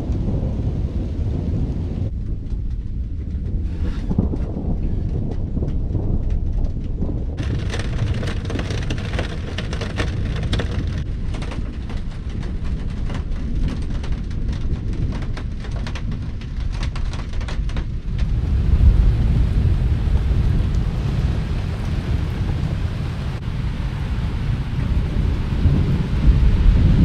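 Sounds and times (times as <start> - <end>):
heavy rain pattering: 0.0 - 27.0
thunder rumbling: 0.0 - 27.0.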